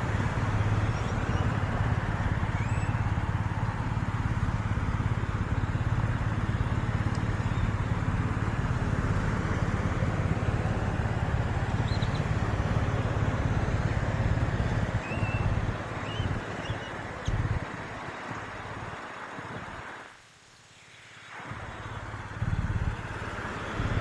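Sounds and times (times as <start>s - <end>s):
vehicle engine rumble: 0.0s - 20.1s, 21.3s - 24.0s
road traffic noise: 0.0s - 24.0s.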